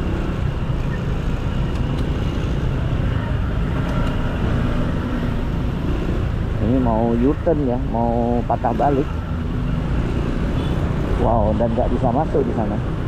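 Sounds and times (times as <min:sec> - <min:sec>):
motorcycle engine and road noise: 0:00.0 - 0:13.0
nearby vehicles running: 0:00.0 - 0:13.0.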